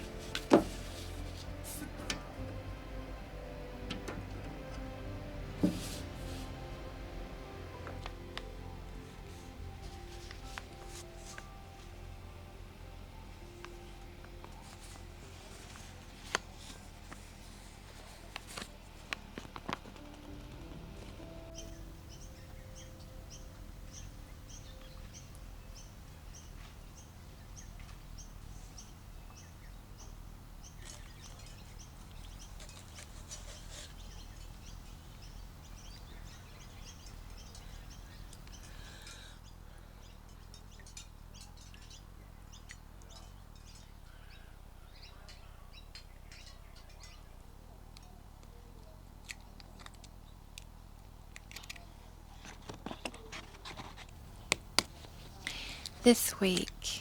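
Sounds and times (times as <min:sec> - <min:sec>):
low steady background: 0:00.0 - 0:57.0.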